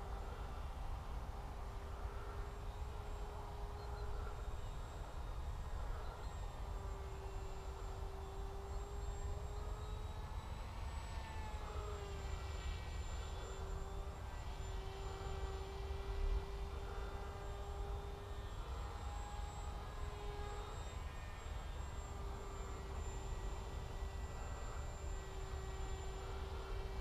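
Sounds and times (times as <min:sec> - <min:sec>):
electric motor and propeller whine: 0:00.0 - 0:27.0.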